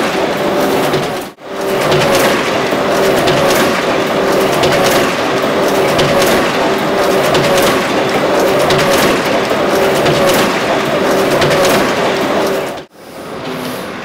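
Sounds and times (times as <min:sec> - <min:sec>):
sharp clacks: 0:00.0 - 0:12.9
steady tones: 0:00.0 - 0:13.6
press mechanical clatter: 0:00.0 - 0:14.0.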